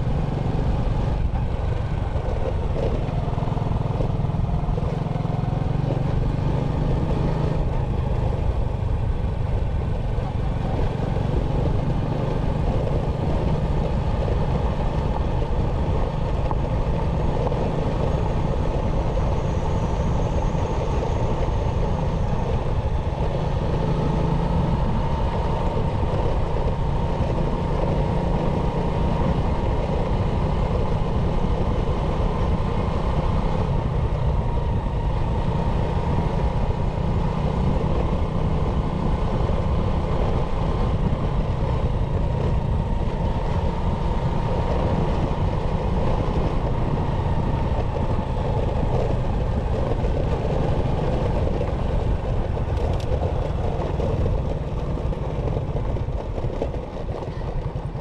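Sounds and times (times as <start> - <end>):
motorcycle engine running: 0.0 - 58.0
wind rushing on microphone: 0.0 - 58.0.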